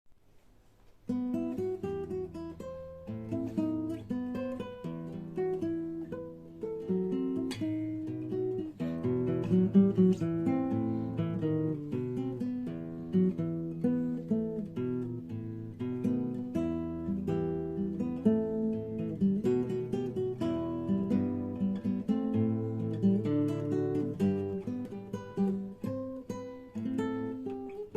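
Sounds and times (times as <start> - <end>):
acoustic guitar strumming: 1.1 - 27.9.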